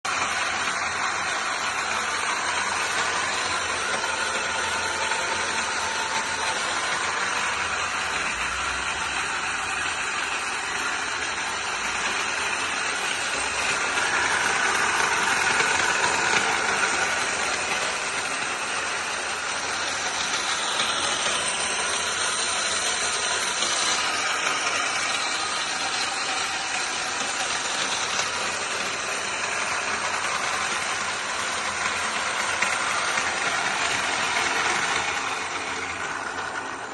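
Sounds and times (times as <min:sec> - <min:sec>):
drilling machine humming: 0:00.0 - 0:36.9.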